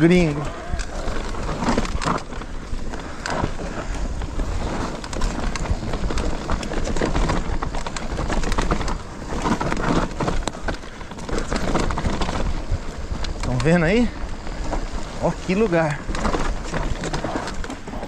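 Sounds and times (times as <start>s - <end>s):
bike rattling over terrain: 0.0s - 18.0s
bike tyres on dirt: 0.0s - 18.0s.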